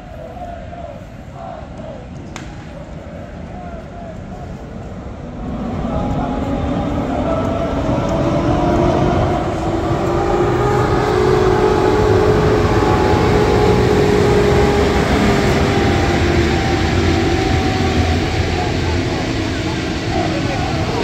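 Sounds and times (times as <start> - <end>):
wheels rumbling on rail: 3.3 - 21.0
locomotive hum rising in pitch: 3.4 - 21.0.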